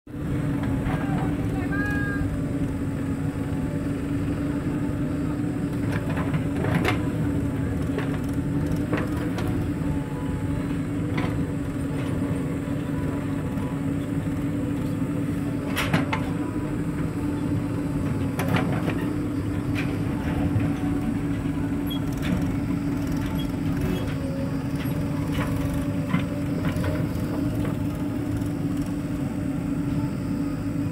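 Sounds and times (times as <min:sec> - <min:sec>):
heavy diesel engine running: 0:00.1 - 0:30.9.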